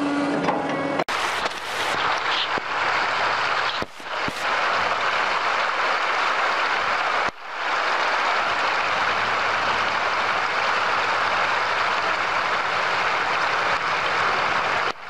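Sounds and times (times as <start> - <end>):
flowing river water: 1.1 - 15.0.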